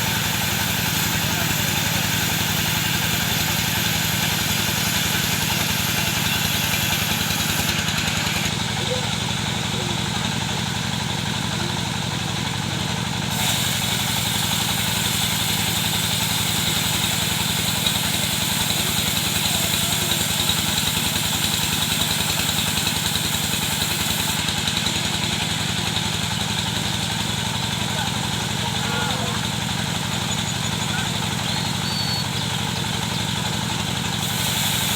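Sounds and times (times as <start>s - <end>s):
saw blade hissing through wood: 0.0s - 8.8s, 13.2s - 34.9s
saw engine running: 0.0s - 34.9s.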